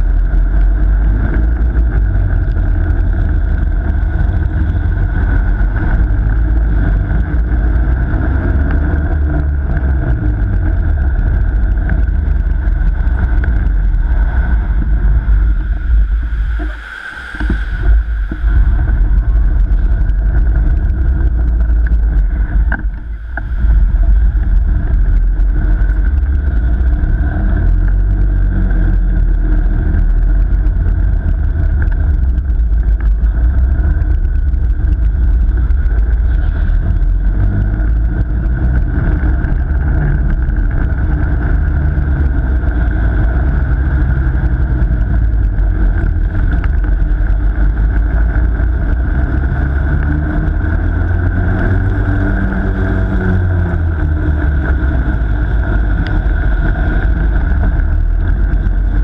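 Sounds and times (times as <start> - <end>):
chassis rumble: 0.0 - 59.0
kart motor drone: 0.0 - 59.0.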